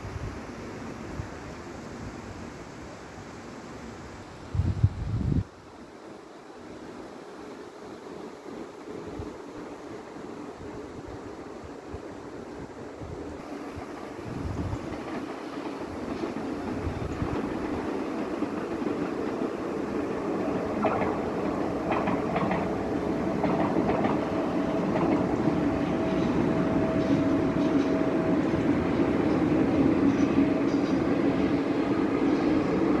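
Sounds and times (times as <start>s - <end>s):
train rolling rumble: 4.2s - 33.0s.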